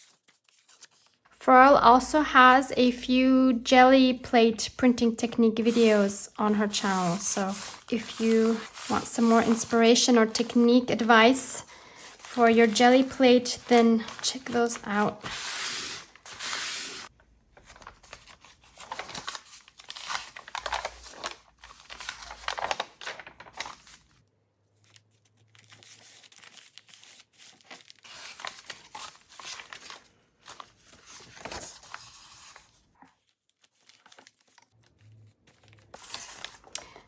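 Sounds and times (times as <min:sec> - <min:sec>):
paper rustling and tearing: 0:00.0 - 0:01.3, 0:05.6 - 0:10.6, 0:11.9 - 0:24.2, 0:24.8 - 0:37.0.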